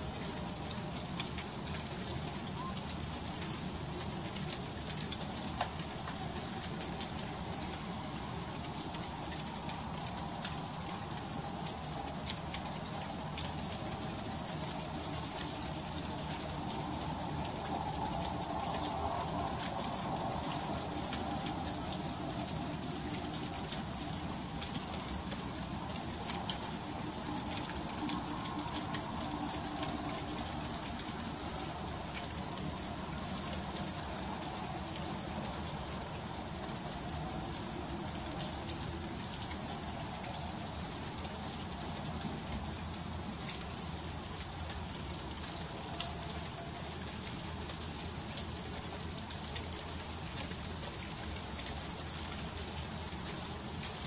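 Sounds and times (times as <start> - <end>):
freezing rain pattering: 0.0 - 54.0.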